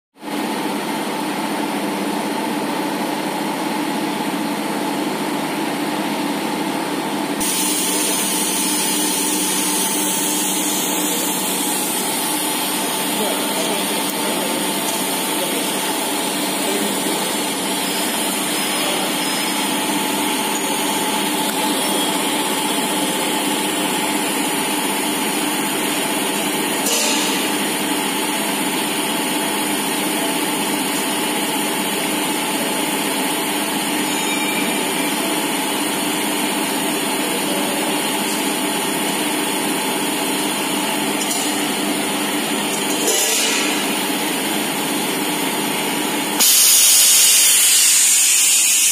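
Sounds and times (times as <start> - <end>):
industrial machinery humming: 0.2 - 48.9.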